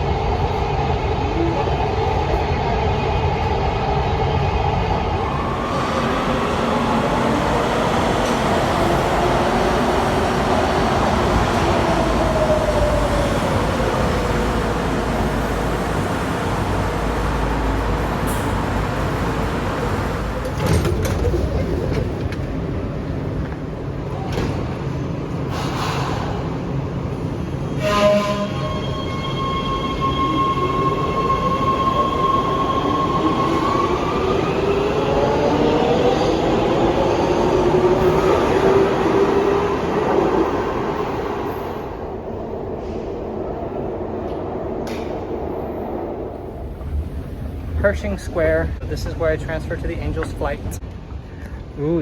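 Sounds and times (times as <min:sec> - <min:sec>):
subway train rumble and rail noise: 0:00.0 - 0:52.0.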